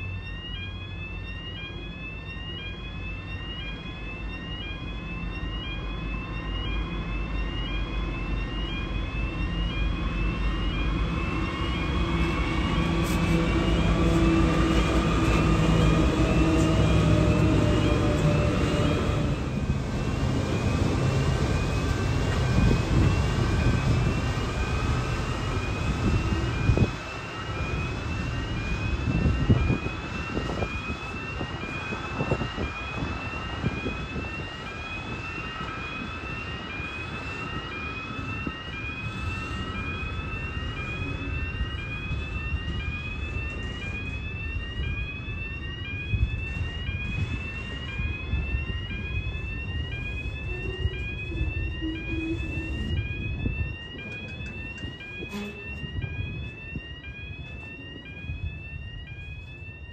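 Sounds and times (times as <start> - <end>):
electronic warning alarm chirp: 0.0 - 59.9
train wagons rumbling: 0.0 - 59.9.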